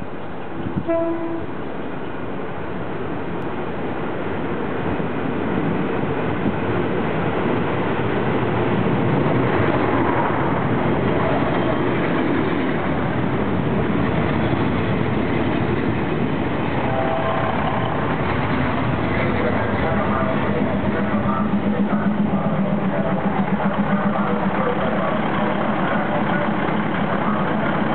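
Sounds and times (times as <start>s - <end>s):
train passing: 0.0s - 27.9s.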